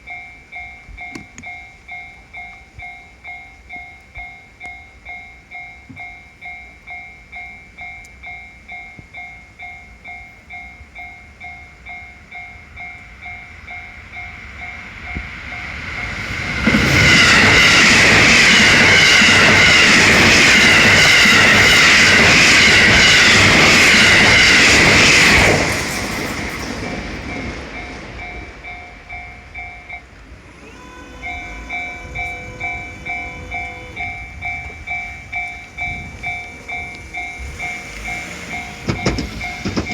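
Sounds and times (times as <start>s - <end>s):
electric train passing: 0.0s - 39.9s
level-crossing bell ringing: 0.0s - 39.9s.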